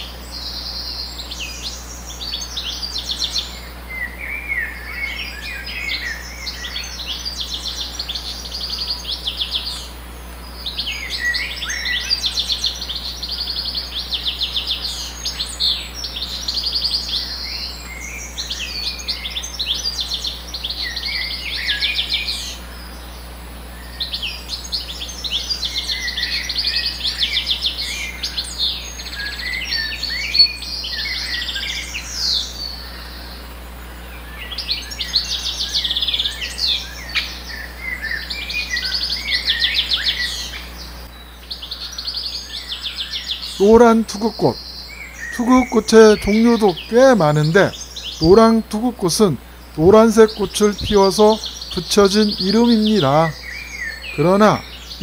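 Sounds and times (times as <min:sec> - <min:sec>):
songbirds trilling and chirping: 0:00.0 - 0:55.0.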